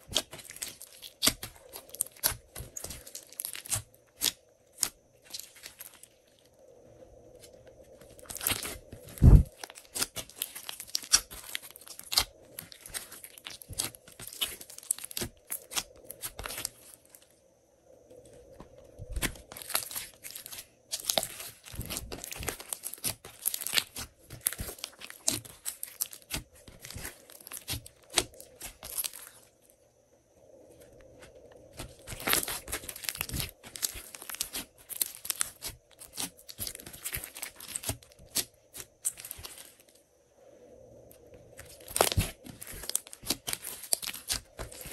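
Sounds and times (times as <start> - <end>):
slime squishing and crackling: 0.0 - 6.4, 8.0 - 17.3, 18.5 - 29.5, 31.2 - 39.9, 41.6 - 44.9.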